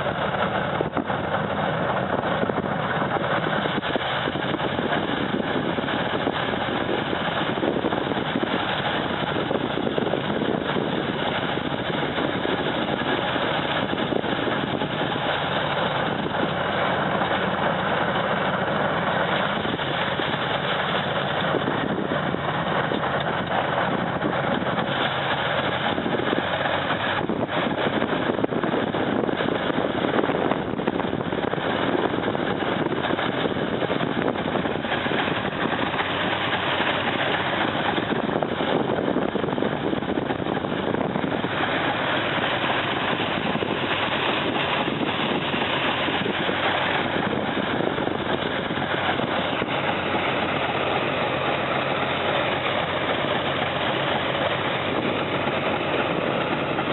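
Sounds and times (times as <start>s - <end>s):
dense even rushing noise: 0.0s - 56.9s
snow-clearing machine engine running: 0.0s - 56.9s.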